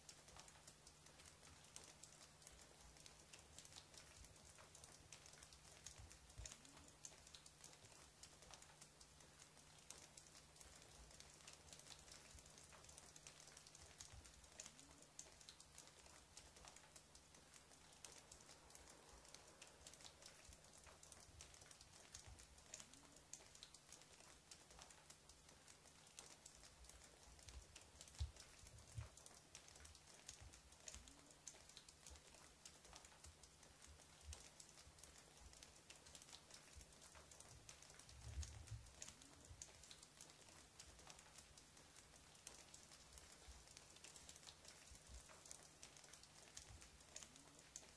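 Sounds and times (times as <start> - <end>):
faint crackling clicks: 0.0 - 47.9.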